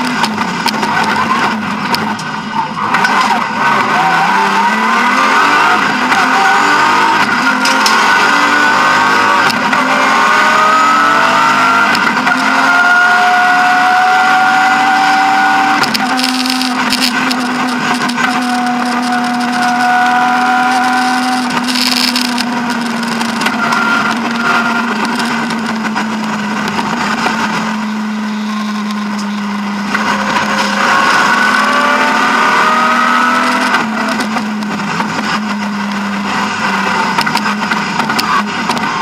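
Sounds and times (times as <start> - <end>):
car engine running hard: 0.0 - 39.0.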